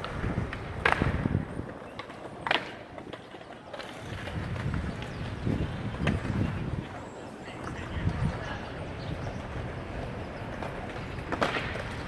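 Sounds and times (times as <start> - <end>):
city street rumble: 0.0 - 12.0.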